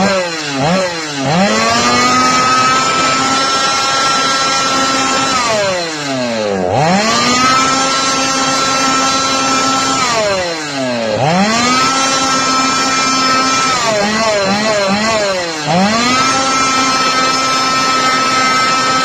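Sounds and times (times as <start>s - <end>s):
chainsaw engine screaming: 0.0s - 19.0s.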